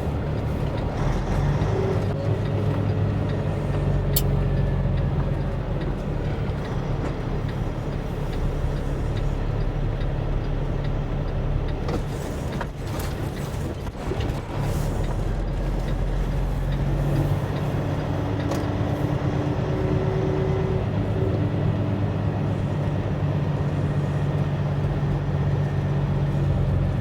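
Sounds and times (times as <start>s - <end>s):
diesel truck engine droning: 0.0s - 27.0s.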